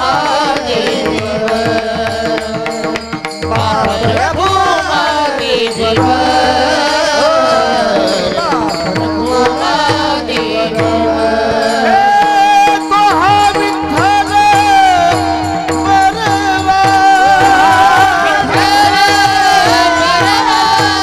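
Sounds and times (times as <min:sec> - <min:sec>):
hand drum beats: 0:00.0 - 0:21.0
man singing long notes: 0:00.0 - 0:21.0.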